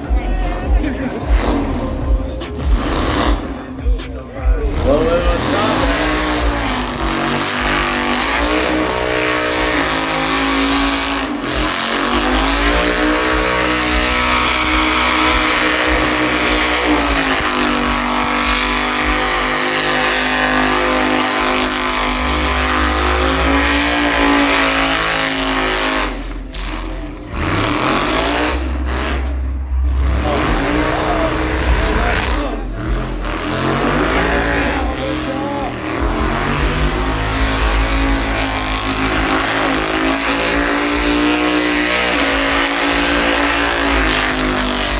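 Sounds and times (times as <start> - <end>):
car engine at high revs: 0.0 - 44.9.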